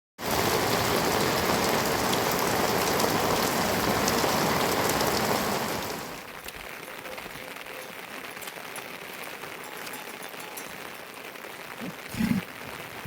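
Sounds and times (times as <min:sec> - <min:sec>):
heavy rain falling: 0:00.2 - 0:13.0.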